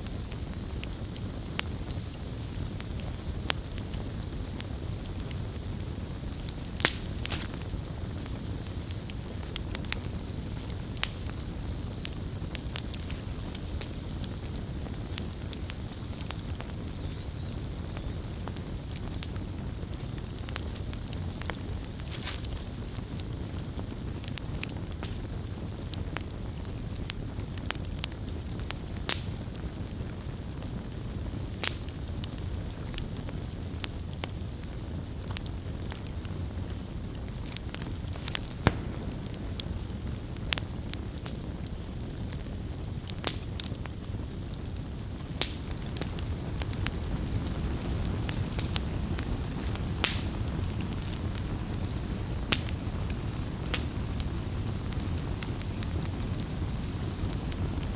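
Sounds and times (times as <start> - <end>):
campfire crackling: 0.0 - 57.9.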